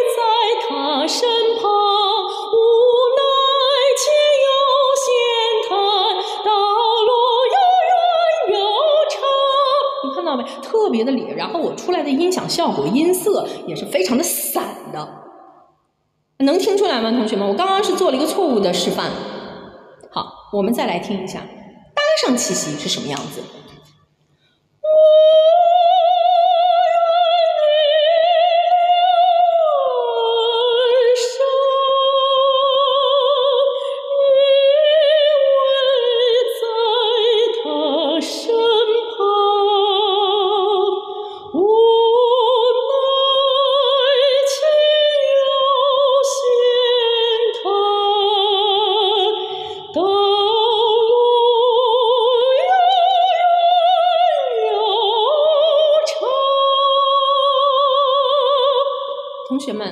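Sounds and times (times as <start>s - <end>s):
woman singing unaccompanied: 0.0s - 15.2s, 16.4s - 21.4s, 24.8s - 59.9s.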